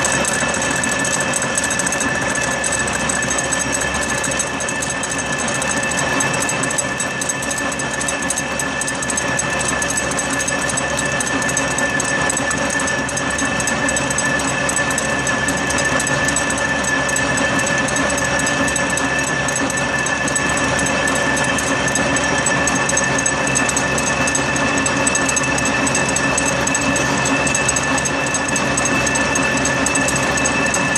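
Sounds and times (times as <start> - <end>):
milling machine cutting metal: 0.0 - 30.9.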